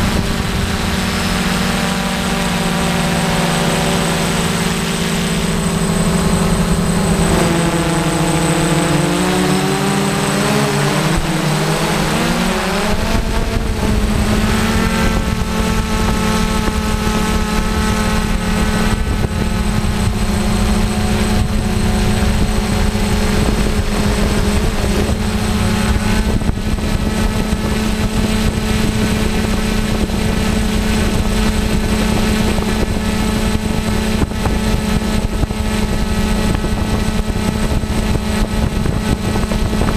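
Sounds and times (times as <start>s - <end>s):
drone motors humming: 0.0s - 39.9s
wind rumble on microphone: 0.0s - 39.9s.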